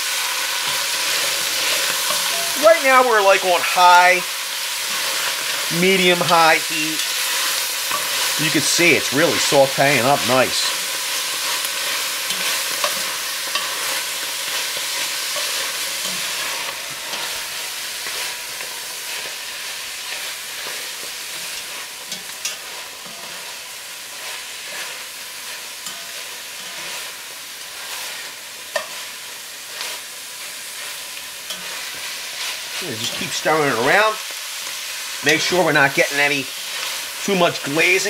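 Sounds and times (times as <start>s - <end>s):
vegetables sizzling in a pot: 0.0s - 38.0s
metal tongs scraping a pot: 0.2s - 3.0s, 4.3s - 9.8s, 10.6s - 30.0s, 30.7s - 35.6s.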